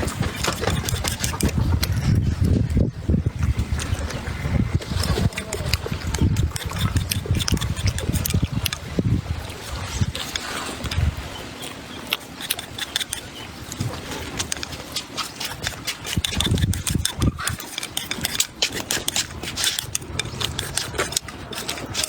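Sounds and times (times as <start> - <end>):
chewing and slurping: 0.0 - 22.0.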